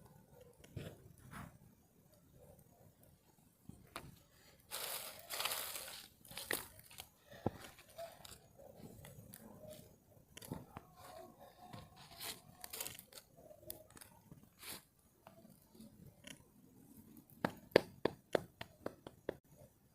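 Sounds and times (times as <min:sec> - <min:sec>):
campfire crackling: 0:00.0 - 0:19.4.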